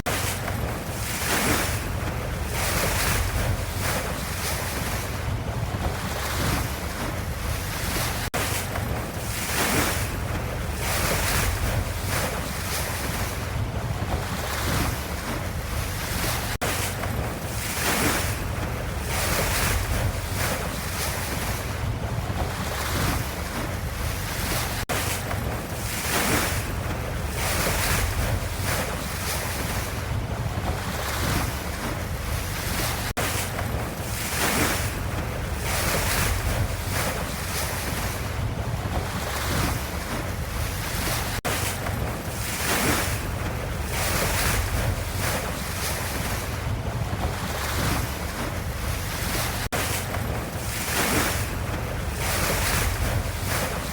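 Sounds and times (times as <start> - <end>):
ocean waves washing: 0.0 - 53.9.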